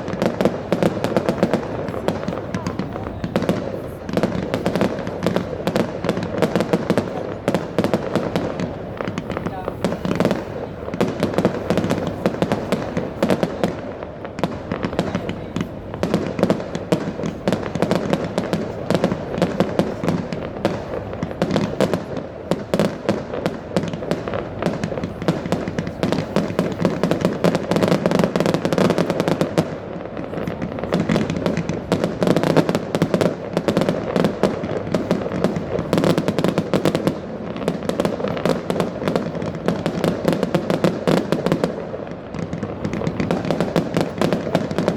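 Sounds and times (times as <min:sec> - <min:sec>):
fireworks crackling and banging: 0:00.0 - 0:44.9.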